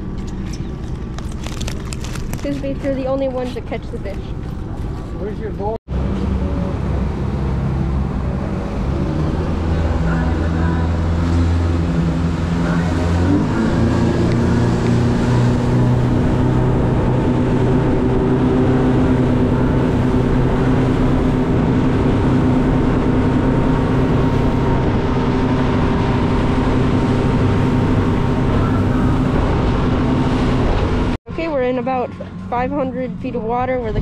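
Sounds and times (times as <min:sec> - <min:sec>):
outboard motor running: 0:00.0 - 0:34.0
water rushing along hull: 0:03.0 - 0:31.2.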